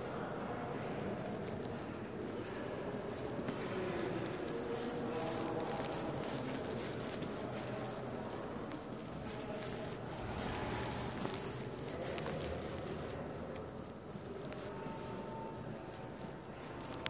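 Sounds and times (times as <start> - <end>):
crackling rustle: 0.0 - 17.0
faint distant voices: 0.0 - 17.0.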